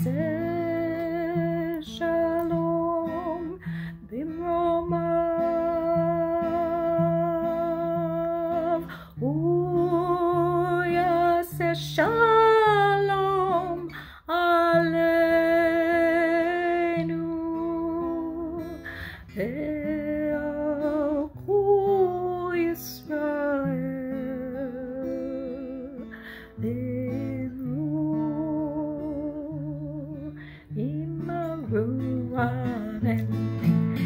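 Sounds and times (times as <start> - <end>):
soft acoustic guitar: 0.0 - 34.0.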